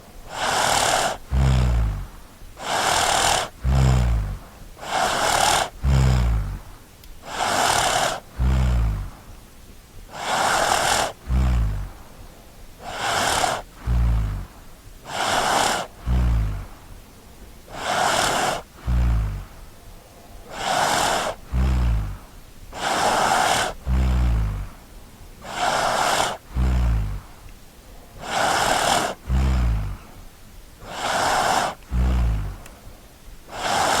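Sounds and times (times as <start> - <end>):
child snoring: 0.2 - 9.3, 10.1 - 12.2, 12.8 - 17.0, 17.7 - 19.7, 20.4 - 24.8, 25.4 - 27.5, 28.1 - 32.8, 33.5 - 34.0.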